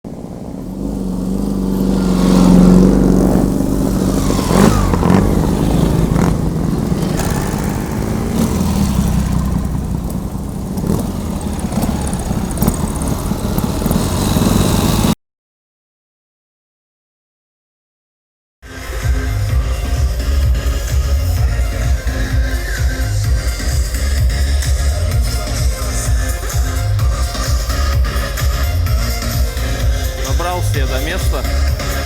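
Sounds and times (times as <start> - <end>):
motorcycle engine revving: 0.0 - 15.2, 18.9 - 32.0.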